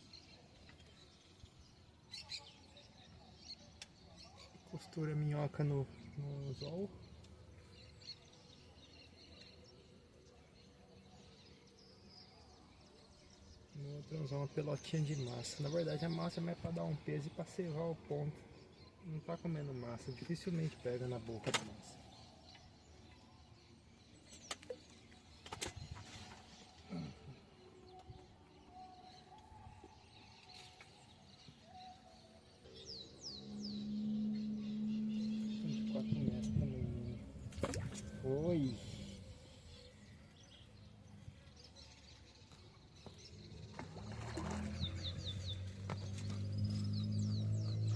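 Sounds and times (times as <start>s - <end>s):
distant bird chirps: 0.0s - 47.9s.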